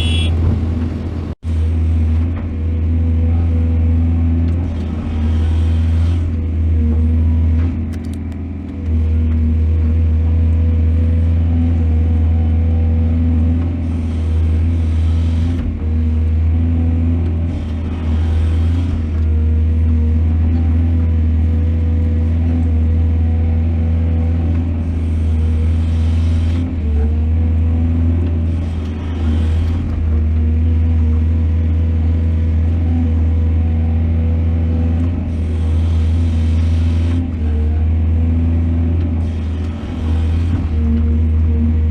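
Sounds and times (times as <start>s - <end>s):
excavator diesel engine drone: 0.0s - 41.9s.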